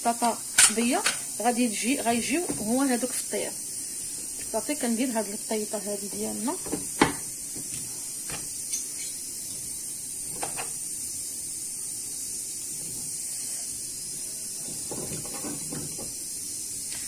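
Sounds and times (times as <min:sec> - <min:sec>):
meat cooking hiss: 0:00.0 - 0:17.0.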